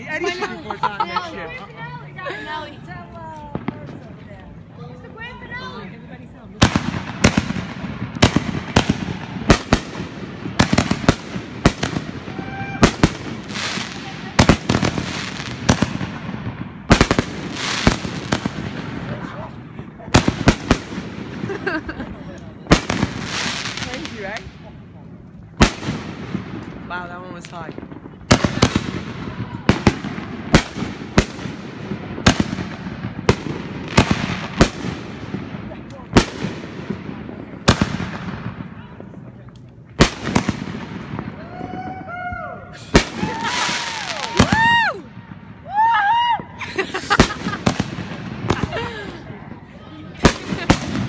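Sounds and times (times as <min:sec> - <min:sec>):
fireworks bangs with echo: 0:06.6 - 0:24.8, 0:25.5 - 0:42.0, 0:42.8 - 0:45.6, 0:46.9 - 0:51.0.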